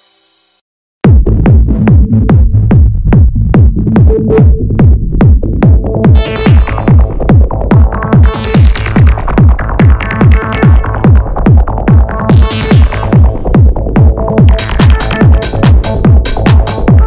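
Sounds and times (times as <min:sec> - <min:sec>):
kick drum beat: 0:01.0 - 0:17.0.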